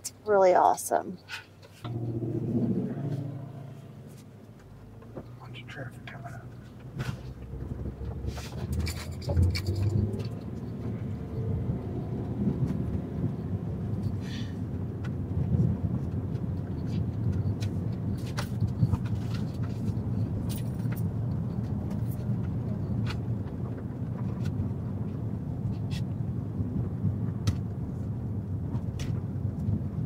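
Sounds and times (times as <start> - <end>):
car engine and tyres rumbling: 1.2 - 30.0.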